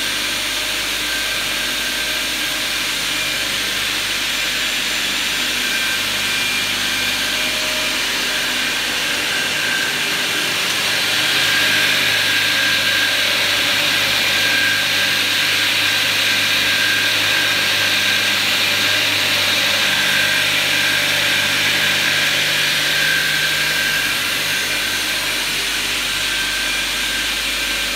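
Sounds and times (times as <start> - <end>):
saw line mechanical hum: 0.0 - 27.9.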